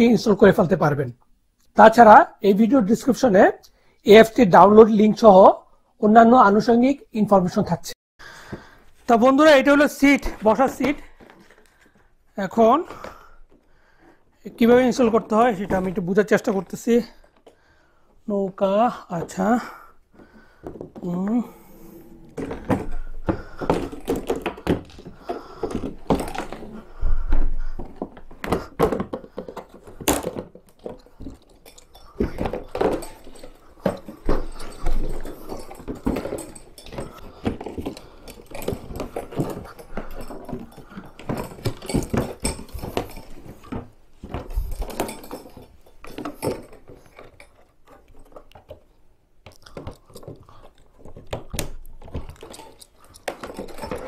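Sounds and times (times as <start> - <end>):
plastic parts knocking: 8.4 - 17.6, 18.4 - 54.0
plastic rustling: 8.8 - 54.0.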